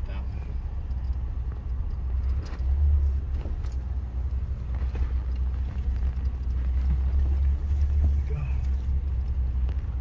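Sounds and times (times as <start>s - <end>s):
pickup truck engine and road rumble: 0.0s - 10.0s.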